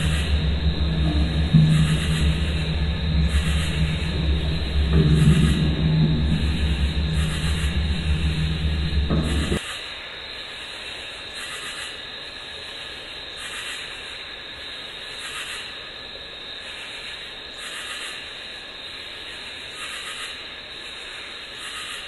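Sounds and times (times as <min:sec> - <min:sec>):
steady hiss: 0:00.0 - 0:20.2.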